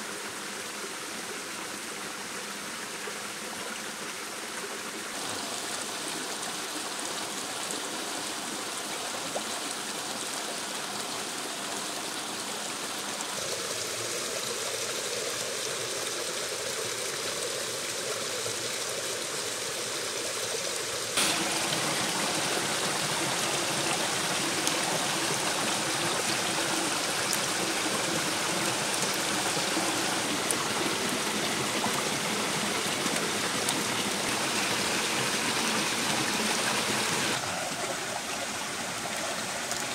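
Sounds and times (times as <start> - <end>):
stream and waterfall over rocks: 0.0 - 39.9.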